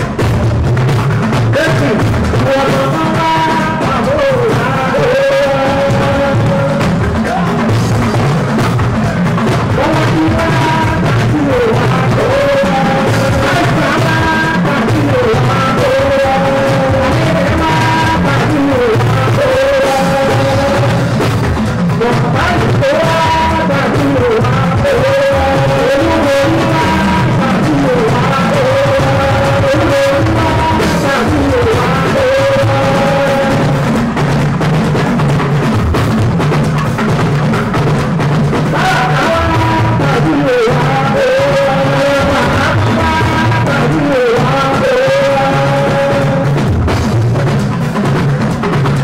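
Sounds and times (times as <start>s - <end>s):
man singing into a microphone: 0.0s - 34.6s, 38.4s - 49.0s
drums: 0.0s - 49.0s
guitars: 0.0s - 49.0s.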